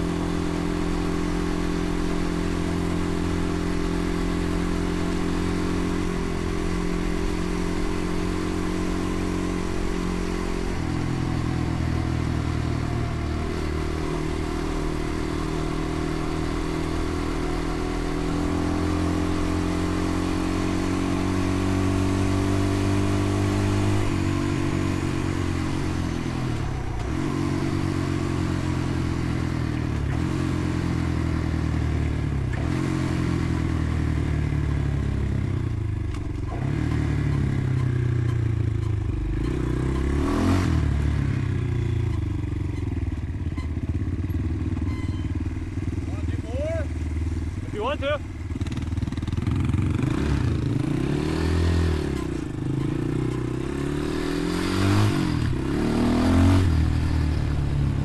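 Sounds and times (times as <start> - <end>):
dirt bike engine: 0.0 - 58.0.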